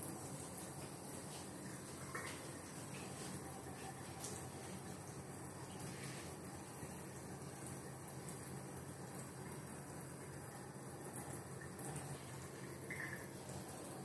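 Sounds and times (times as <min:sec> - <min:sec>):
tap water running: 0:00.0 - 0:14.0.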